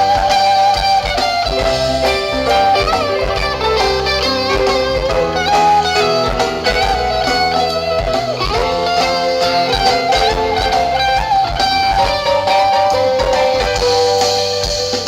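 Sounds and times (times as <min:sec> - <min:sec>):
electric guitar lead: 0:00.0 - 0:15.0
live rock band playing: 0:00.0 - 0:15.0.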